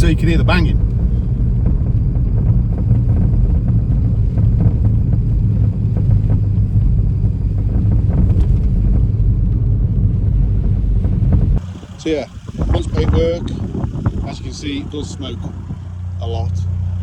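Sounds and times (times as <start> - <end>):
car road and engine rumble: 0.0 - 17.0
suspension knocking: 0.0 - 17.0.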